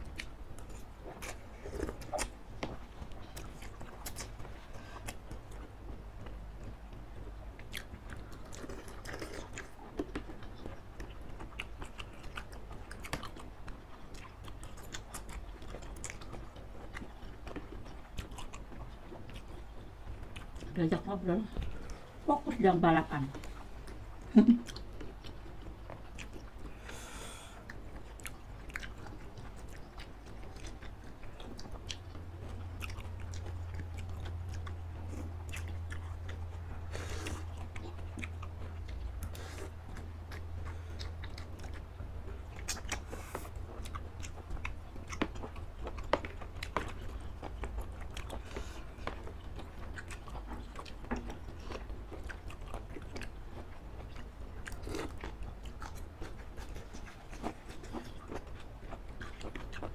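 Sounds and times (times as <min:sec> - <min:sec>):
chewing and biting food: 0:00.0 - 0:59.9
steady low hum: 0:00.0 - 0:59.9.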